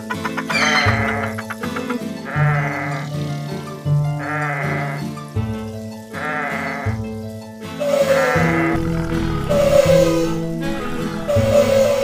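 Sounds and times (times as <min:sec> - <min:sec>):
music with low held notes: 0:00.0 - 0:12.0
animal bleating: 0:00.3 - 0:03.5, 0:04.1 - 0:07.0, 0:07.8 - 0:11.6.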